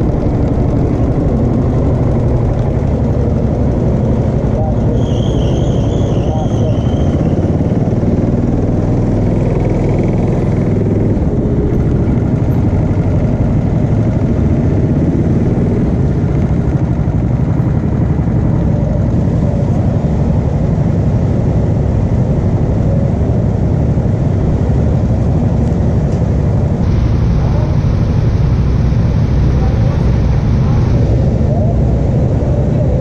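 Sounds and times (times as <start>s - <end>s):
go-kart engine running: 0.0s - 33.0s.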